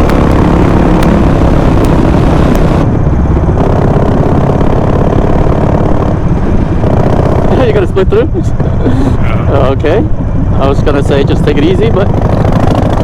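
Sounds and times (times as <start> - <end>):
motorcycle engine running: 0.0 - 13.0
wind rush over microphone: 0.0 - 13.0.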